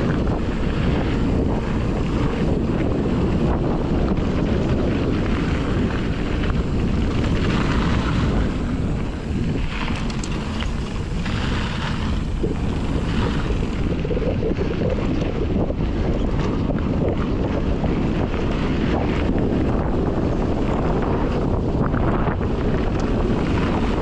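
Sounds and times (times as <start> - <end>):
bike tyres hissing on dirt trail: 0.0 - 24.0
wind buffeting microphone: 0.0 - 24.0.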